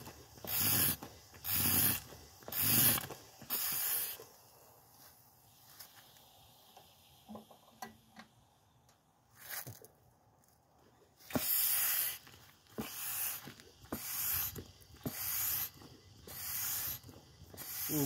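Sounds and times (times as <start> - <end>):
short hissing bursts: 0.0 - 7.7, 11.2 - 18.0.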